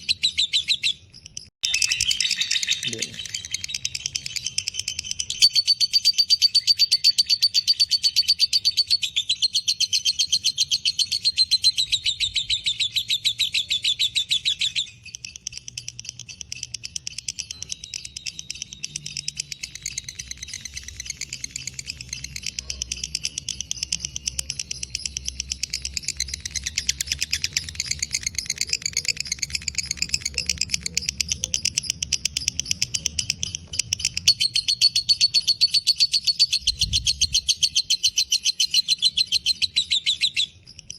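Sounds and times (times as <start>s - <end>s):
lovebird chattering trill: 0.0s - 40.9s.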